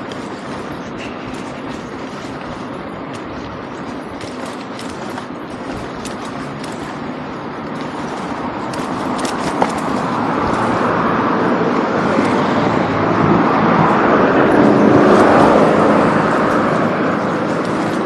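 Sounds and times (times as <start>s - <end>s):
vehicle passing: 0.0s - 18.0s.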